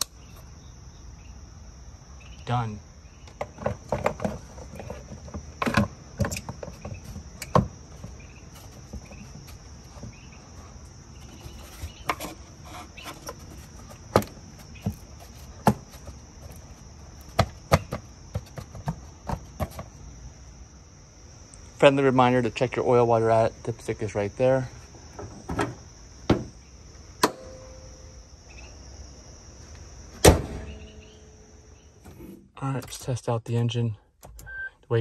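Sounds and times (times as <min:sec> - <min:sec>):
high insect trill: 0:00.0 - 0:34.2.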